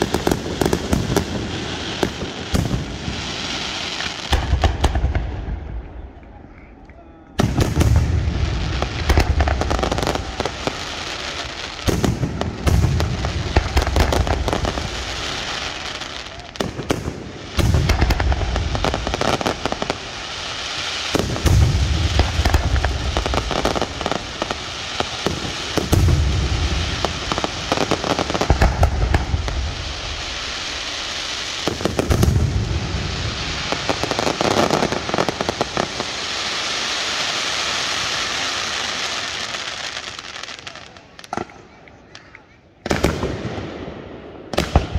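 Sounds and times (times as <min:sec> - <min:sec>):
firework shells booming: 0:00.0 - 0:06.0, 0:07.4 - 0:36.2, 0:41.2 - 0:44.9
firework crackling: 0:00.0 - 0:06.3, 0:07.4 - 0:44.9.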